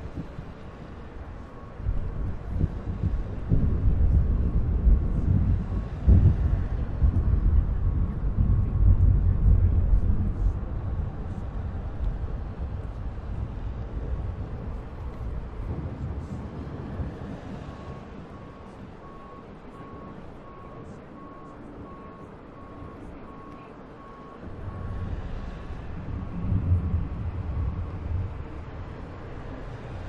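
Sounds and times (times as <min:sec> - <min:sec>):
deep rumble: 0:00.0 - 0:20.7, 0:22.6 - 0:30.0.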